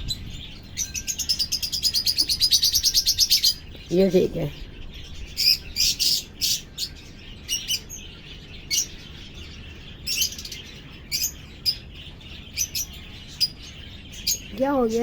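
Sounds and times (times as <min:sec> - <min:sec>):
parakeets chirping: 0:00.0 - 0:15.0.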